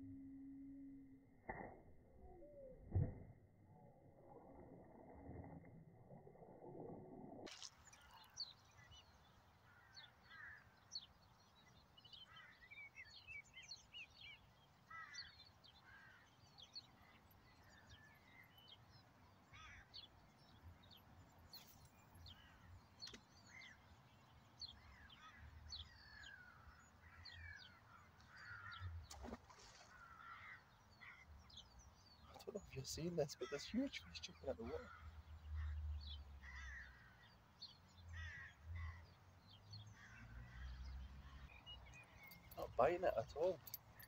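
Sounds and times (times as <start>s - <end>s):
small birds chirping: 7.5s - 44.0s.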